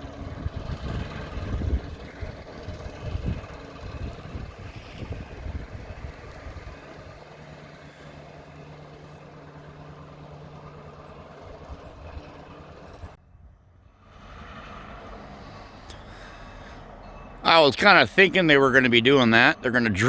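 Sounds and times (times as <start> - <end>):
engine idling: 0.0 - 13.2, 14.0 - 20.0.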